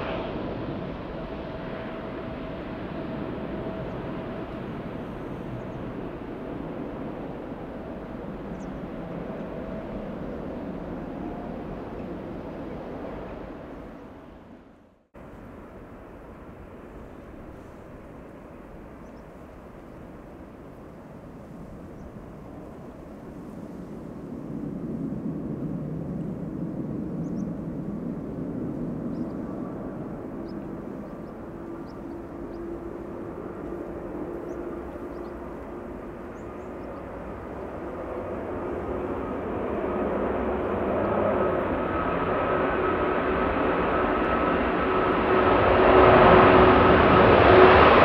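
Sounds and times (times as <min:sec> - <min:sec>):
airliner engines droning: 0:00.0 - 0:48.0.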